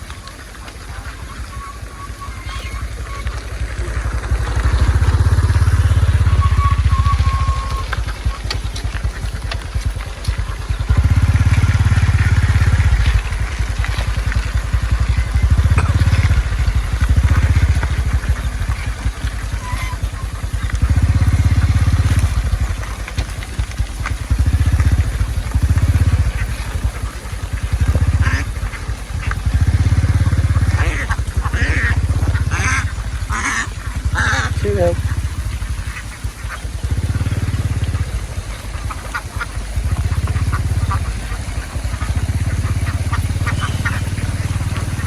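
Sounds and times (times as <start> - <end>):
small engine rumbling: 0.0 - 45.0.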